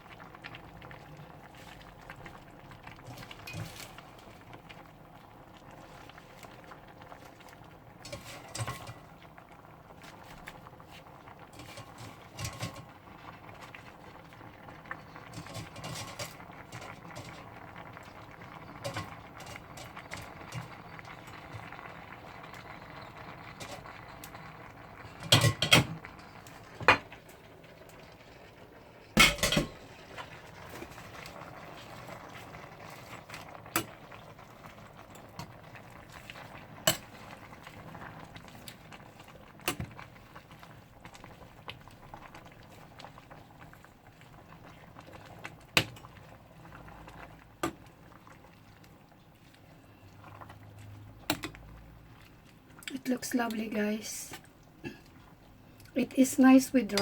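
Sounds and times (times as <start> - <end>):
stew boiling in a pot: 0.0 - 57.0.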